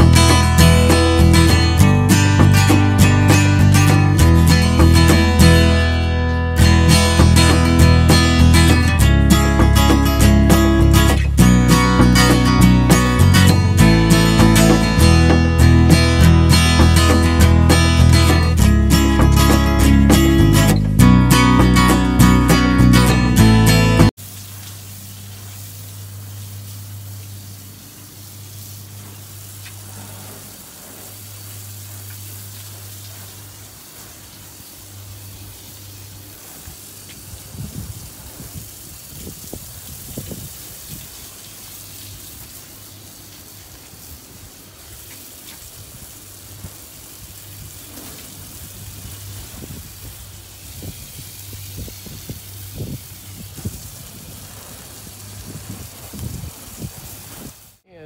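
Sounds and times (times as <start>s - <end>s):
hose spray on wet wood: 0.0s - 57.8s.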